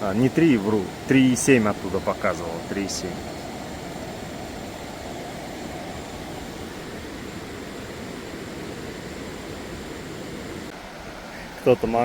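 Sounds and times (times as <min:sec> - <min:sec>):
mountain river rushing: 0:00.0 - 0:12.0.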